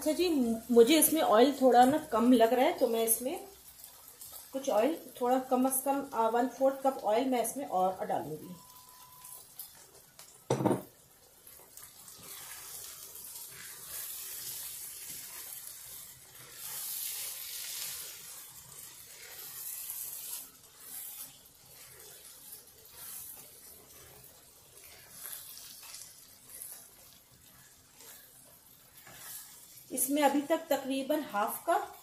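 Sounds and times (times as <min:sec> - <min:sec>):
spices sizzling in oil: 0:00.0 - 0:32.0.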